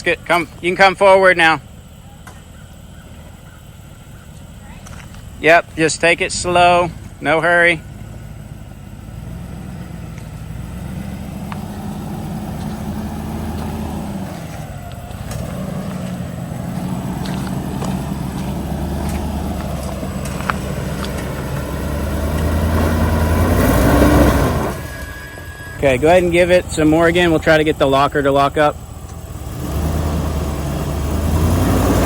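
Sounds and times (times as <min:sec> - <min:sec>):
engine running at low revs: 0:00.0 - 0:32.0.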